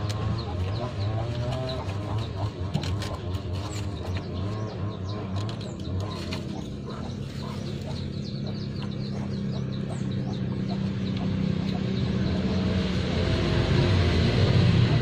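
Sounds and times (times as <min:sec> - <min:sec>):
low engine hum: 0:00.0 - 0:15.0
small birds chirping: 0:00.0 - 0:15.0.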